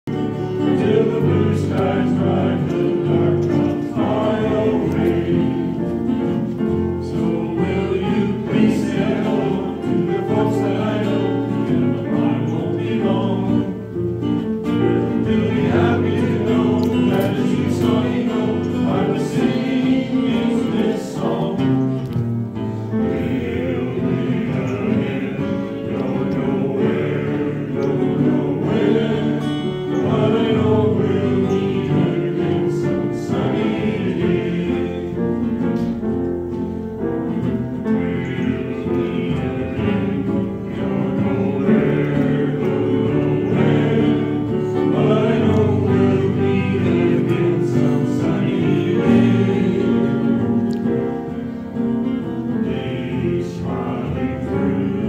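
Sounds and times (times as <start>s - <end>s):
men's choir singing: 0.1s - 55.0s.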